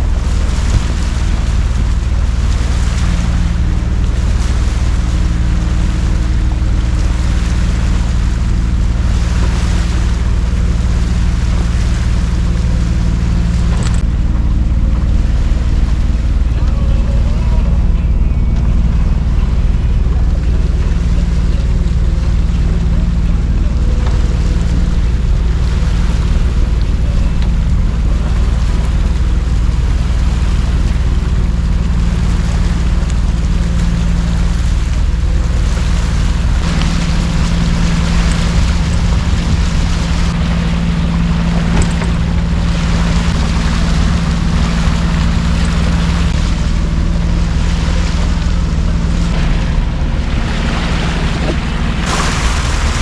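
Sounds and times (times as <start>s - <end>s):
boat engine hum: 0.0s - 53.0s
water rushing: 0.0s - 53.0s
wind on microphone: 0.0s - 53.0s.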